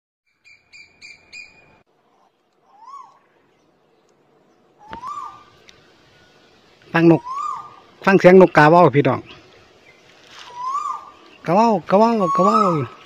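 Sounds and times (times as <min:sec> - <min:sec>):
bird calling rising and falling: 0:00.3 - 0:08.6, 0:09.2 - 0:13.0.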